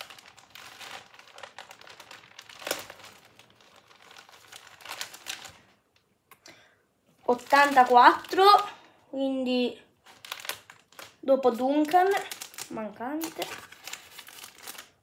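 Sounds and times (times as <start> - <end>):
plastic binder pages crinkling: 0.0 - 6.0, 7.3 - 8.7, 10.0 - 15.0.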